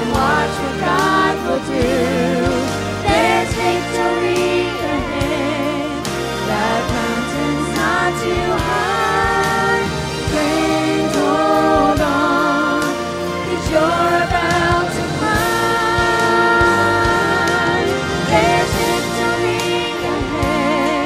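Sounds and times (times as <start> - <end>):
family singing gospel song: 0.0 - 21.0
instrumental accompaniment with beat: 0.0 - 21.0.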